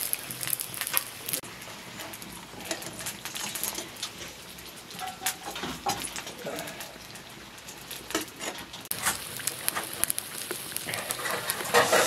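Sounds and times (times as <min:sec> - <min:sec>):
oil crackling and spattering: 0:00.0 - 0:12.0.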